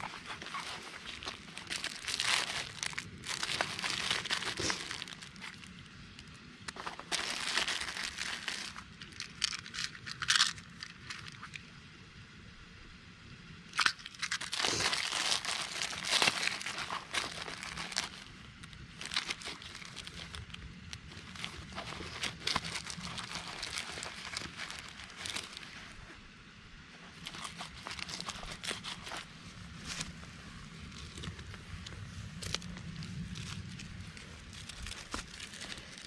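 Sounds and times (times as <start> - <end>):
plastic crinkling and rustling: 0.0 - 11.6, 13.8 - 26.2, 27.0 - 36.0.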